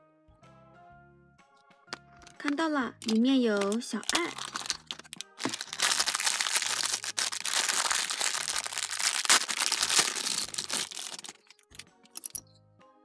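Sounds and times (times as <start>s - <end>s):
plastic bag crinkling: 2.0s - 12.4s.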